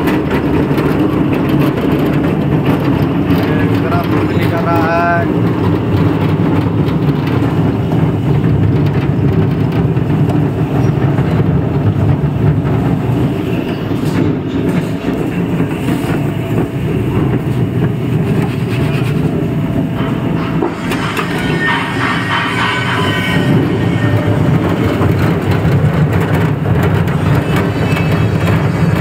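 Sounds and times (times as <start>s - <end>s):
machine running: 0.0s - 29.0s.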